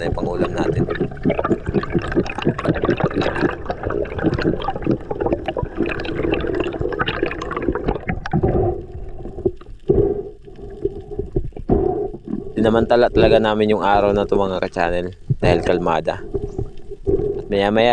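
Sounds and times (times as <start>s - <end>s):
crackling clicks: 0.0s - 17.9s
water sloshing and bubbling: 0.0s - 17.9s.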